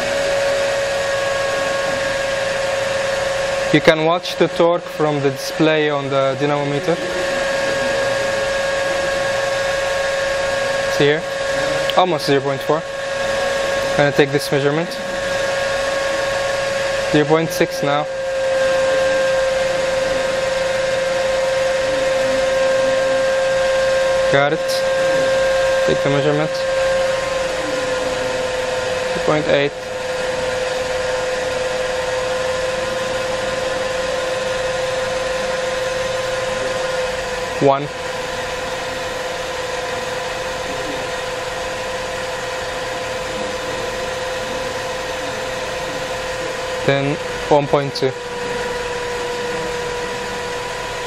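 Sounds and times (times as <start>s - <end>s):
electric motor whine: 0.0s - 51.0s
machine hum: 0.0s - 51.0s.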